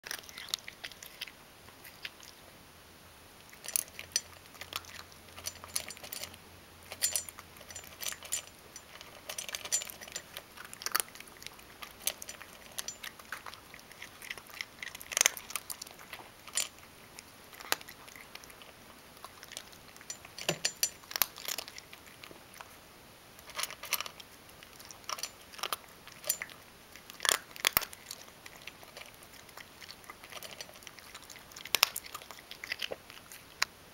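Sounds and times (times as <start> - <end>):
cat crunching dry kibble: 0.0 - 2.5, 3.4 - 33.8.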